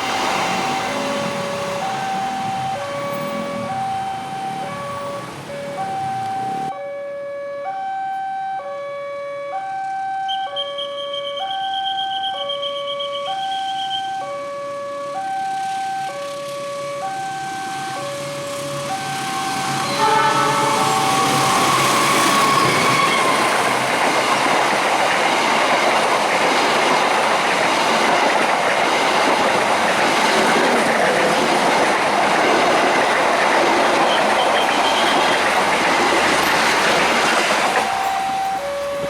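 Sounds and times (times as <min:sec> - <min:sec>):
train wheel and rail noise: 0:00.0 - 0:06.7, 0:09.8 - 0:39.0
crossing warning chime: 0:00.0 - 0:39.0.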